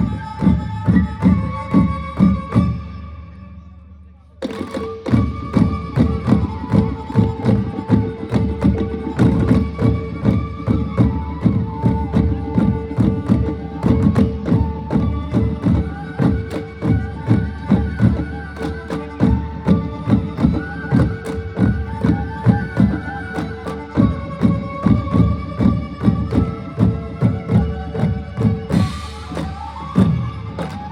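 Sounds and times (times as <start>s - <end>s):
drums beaten fast: 4.4s - 30.9s.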